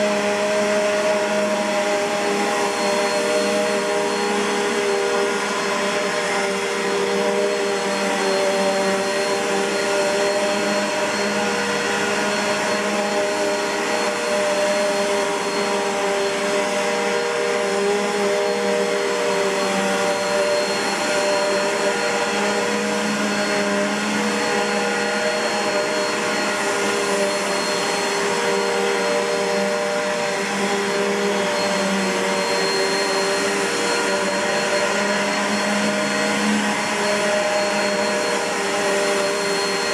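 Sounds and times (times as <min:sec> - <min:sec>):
vacuum cleaner motor hum and whine: 0:00.0 - 0:39.9.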